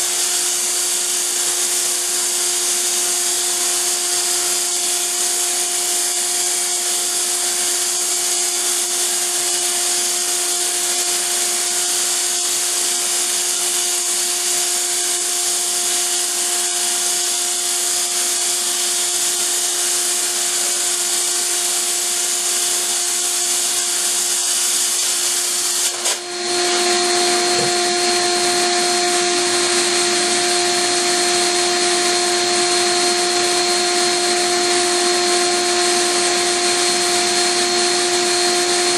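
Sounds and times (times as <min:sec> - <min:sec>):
core drill boring through concrete: 0:00.0 - 0:38.9.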